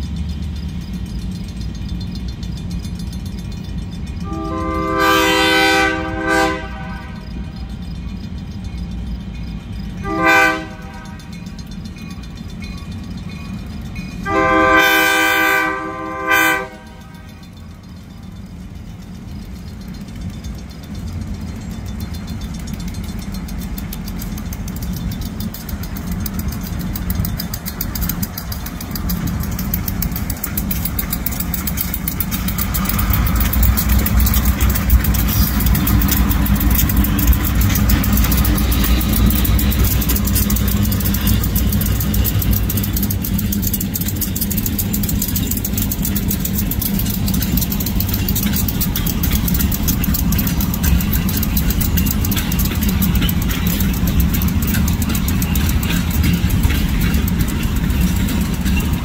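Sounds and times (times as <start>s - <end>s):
diesel locomotives rumbling past: 0.0s - 59.0s.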